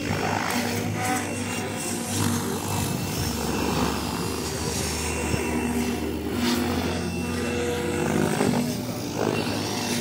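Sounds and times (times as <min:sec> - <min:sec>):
model helicopter rotor whine: 0:00.0 - 0:10.0.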